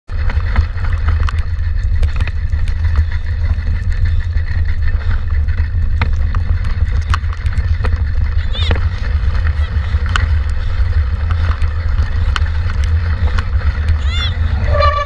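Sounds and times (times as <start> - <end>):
low rumble of wind and vibration: 0.0 - 15.0
bike rattling over bumps: 0.1 - 15.0.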